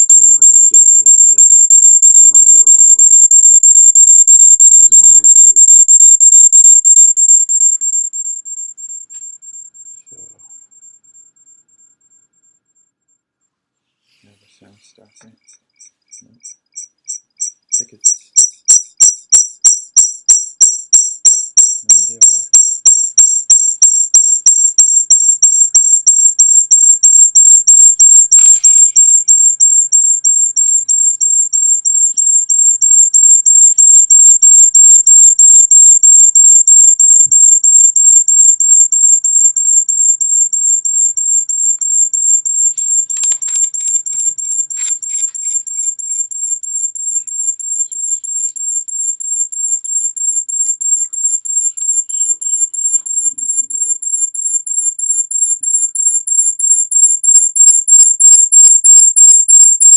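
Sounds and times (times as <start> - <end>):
high-pitched pulsing beeps: 0.0 - 11.6, 15.1 - 59.9.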